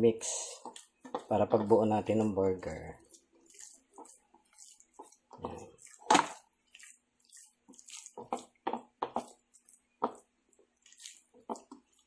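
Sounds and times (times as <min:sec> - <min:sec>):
hand squelching wet meat mixture: 0:00.0 - 0:12.0.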